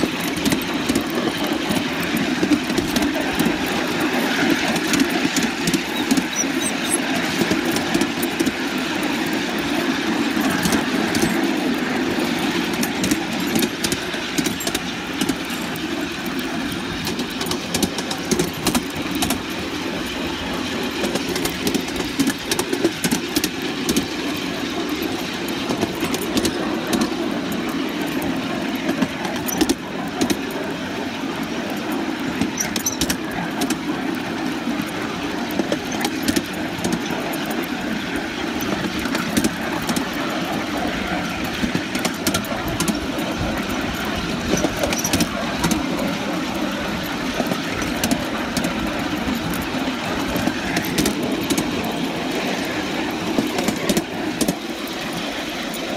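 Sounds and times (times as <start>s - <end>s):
model steam locomotive running: 0.0s - 55.9s.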